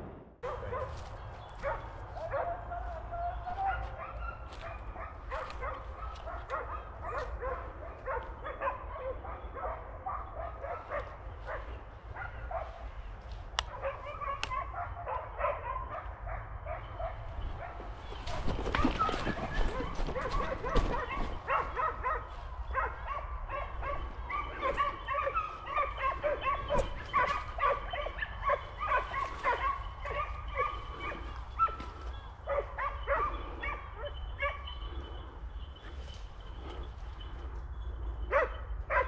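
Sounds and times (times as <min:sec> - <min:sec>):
hunting dogs baying and barking: 0:00.4 - 0:39.0.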